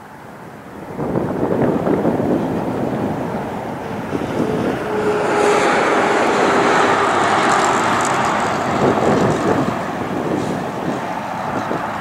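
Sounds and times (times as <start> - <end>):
truck engine and tyre noise: 0.0 - 12.0.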